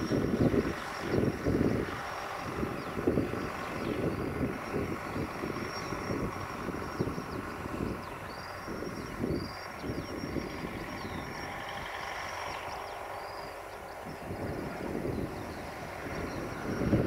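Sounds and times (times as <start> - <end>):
distant tractor diesel engine: 0.0 - 17.0
wind buffeting microphone: 0.0 - 17.0.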